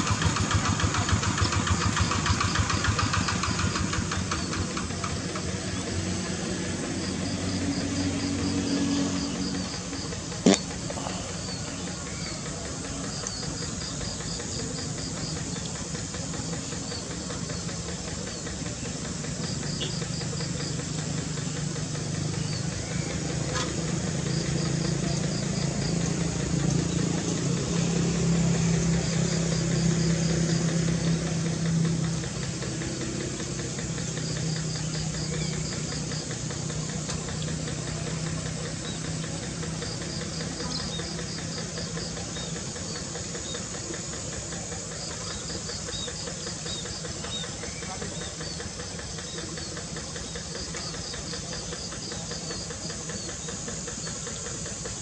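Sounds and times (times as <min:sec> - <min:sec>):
diesel engine running: 0:00.0 - 0:55.0
insects chirping: 0:00.0 - 0:55.0.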